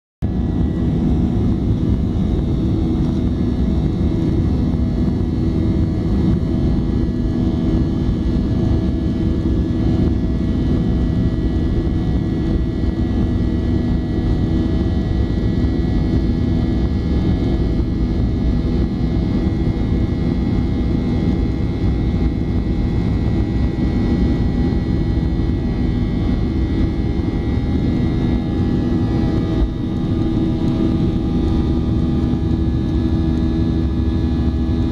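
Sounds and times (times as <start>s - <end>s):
jet engines rumbling: 0.2s - 34.9s.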